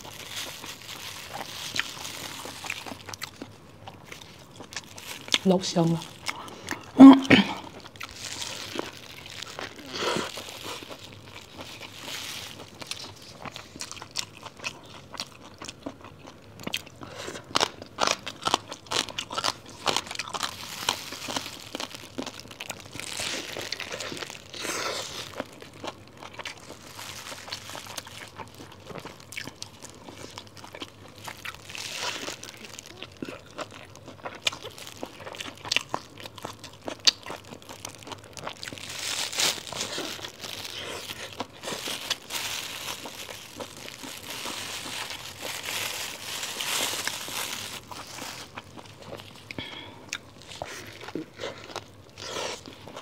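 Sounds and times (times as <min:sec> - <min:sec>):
plastic wrapper crinkling: 0:00.0 - 0:15.1, 0:18.1 - 0:49.5
person chewing crunchy bread: 0:00.0 - 0:53.0.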